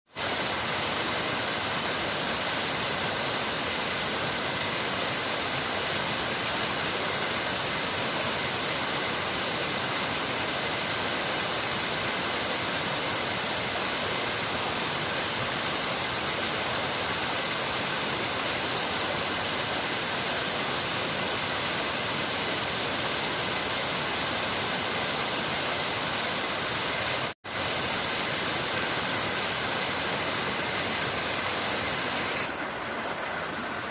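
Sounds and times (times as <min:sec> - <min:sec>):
running water rushing: 0:00.1 - 0:33.9.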